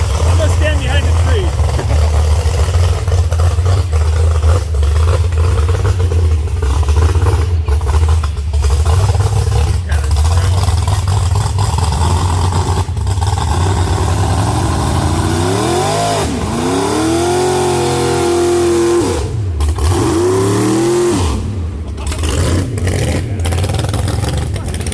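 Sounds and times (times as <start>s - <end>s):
truck engine revving: 0.0s - 24.9s.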